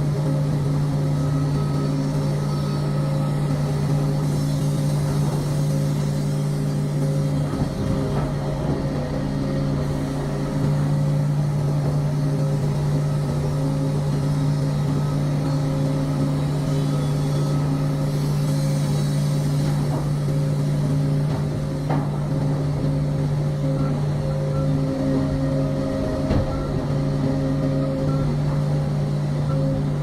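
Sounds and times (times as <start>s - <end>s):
engine running steadily: 0.0s - 30.0s.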